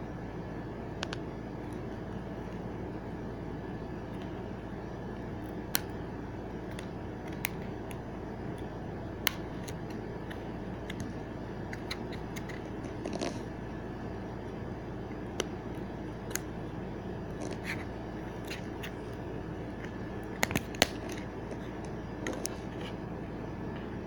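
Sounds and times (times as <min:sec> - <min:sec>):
background hum and hiss: 0:00.0 - 0:24.0.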